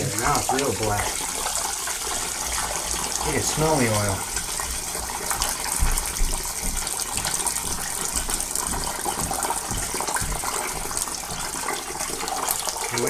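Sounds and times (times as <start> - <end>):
water gushing from drain: 0.0 - 13.0.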